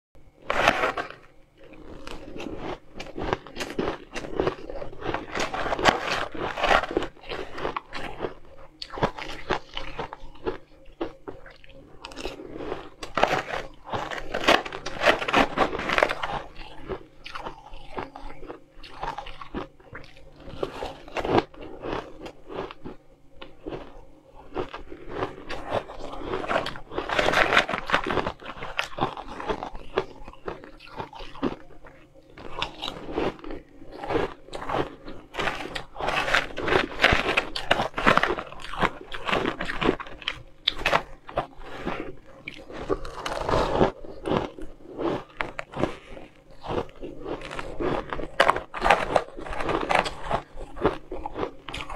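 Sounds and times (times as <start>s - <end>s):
crunching and chewing ice: 0.2s - 51.9s.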